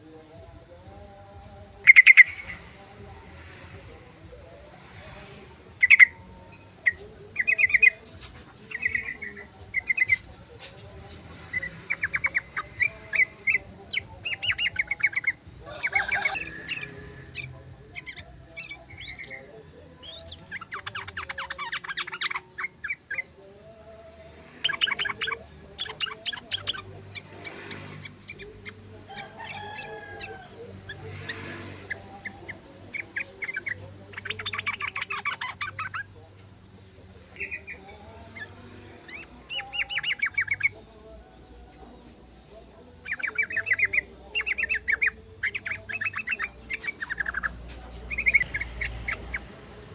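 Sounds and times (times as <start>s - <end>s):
bulbuls singing and chattering: 0.0s - 49.9s.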